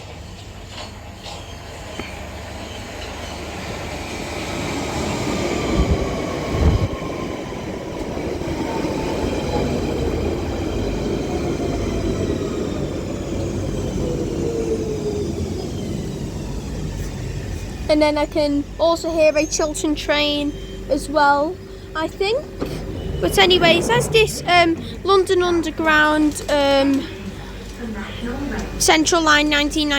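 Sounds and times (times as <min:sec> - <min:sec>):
train motor whine: 0:00.0 - 0:29.9.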